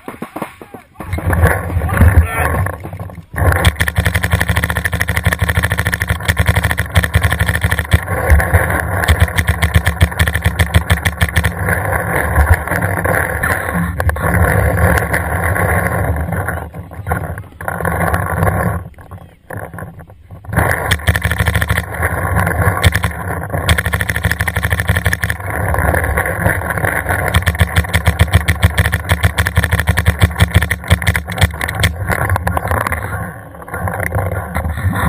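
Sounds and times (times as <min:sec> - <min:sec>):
paintball marker firing rapidly: 0:00.0 - 0:18.9, 0:20.5 - 0:33.2.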